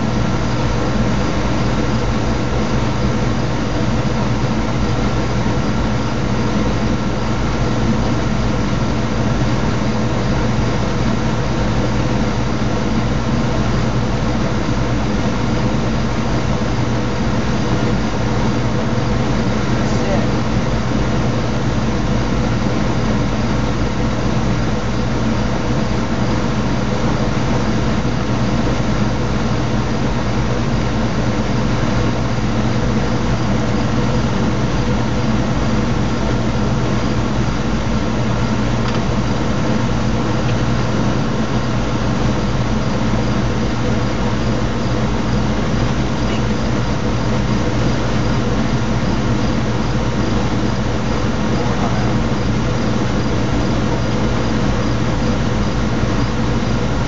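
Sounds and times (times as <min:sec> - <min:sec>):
mechanical drone hum: 0:00.0 - 0:57.0.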